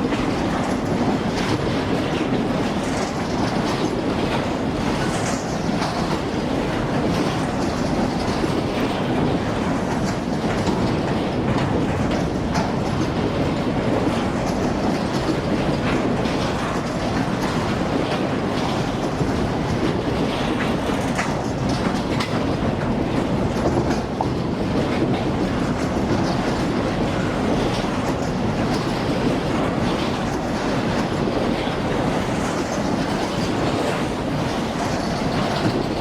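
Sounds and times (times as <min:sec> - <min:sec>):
freight train wagons rolling: 0:00.0 - 0:36.0.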